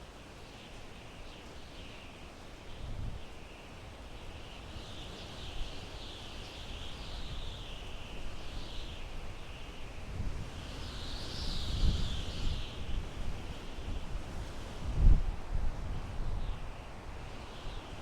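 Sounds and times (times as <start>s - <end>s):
wind through pine trees: 0.0s - 18.0s.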